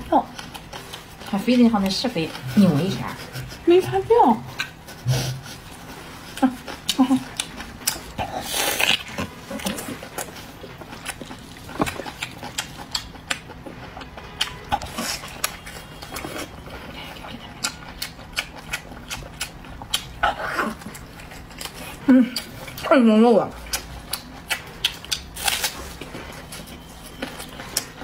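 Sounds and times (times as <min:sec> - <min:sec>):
person chewing: 0:00.0 - 0:22.9, 0:23.5 - 0:28.0.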